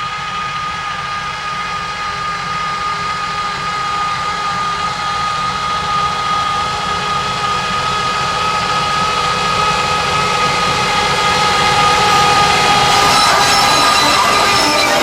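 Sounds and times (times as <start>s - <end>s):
heavy engine running: 0.0s - 15.0s
high steady whine: 0.0s - 15.0s.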